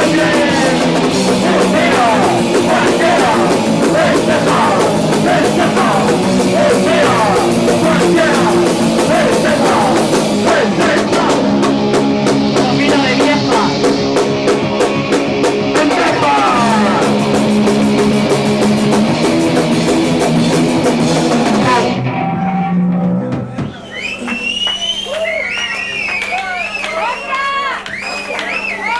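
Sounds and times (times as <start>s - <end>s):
punk rock band playing live: 0.0s - 23.8s.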